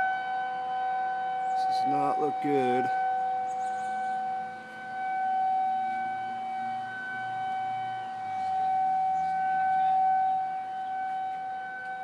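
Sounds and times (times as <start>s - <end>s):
tornado siren wailing: 0.0s - 12.0s.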